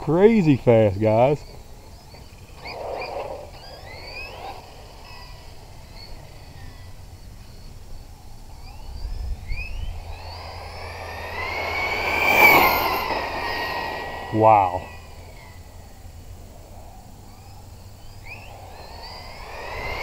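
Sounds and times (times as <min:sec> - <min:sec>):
electric motor whining: 0:01.4 - 0:20.0.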